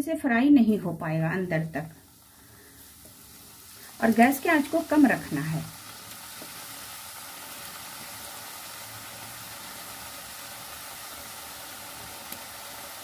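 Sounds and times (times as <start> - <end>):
food sizzling in hot oil: 0.6 - 13.0.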